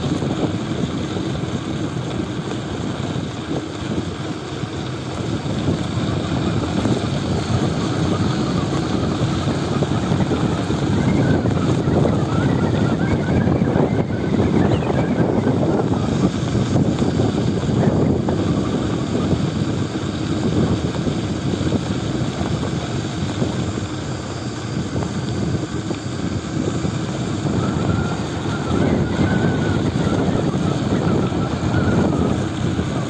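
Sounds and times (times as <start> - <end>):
faint thin whine: 0.0 - 33.0
wind buffeting microphone: 0.0 - 33.0.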